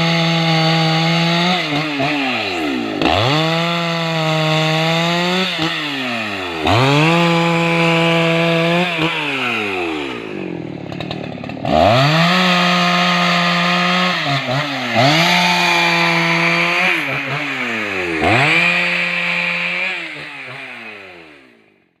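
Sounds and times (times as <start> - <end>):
chainsaw revving and cutting wood: 0.0 - 22.0.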